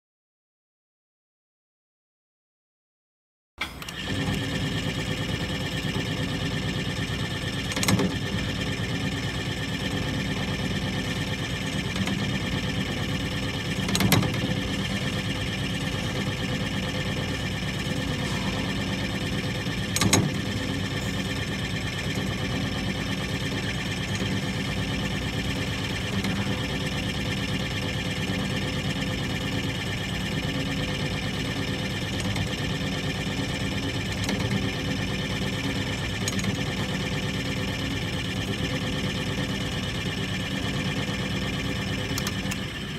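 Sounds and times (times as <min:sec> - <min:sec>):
deburring machine humming: 0:03.6 - 0:42.9.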